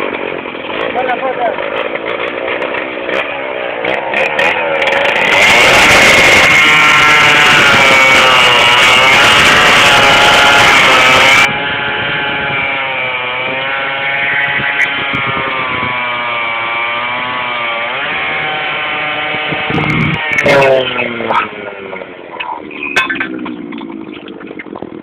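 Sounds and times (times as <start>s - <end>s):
petrol cutter cutting steel: 0.0s - 23.6s.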